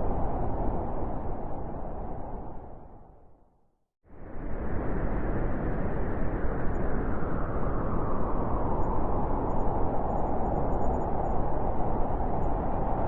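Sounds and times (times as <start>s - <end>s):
howling blizzard wind: 0.0s - 3.5s, 4.1s - 13.0s.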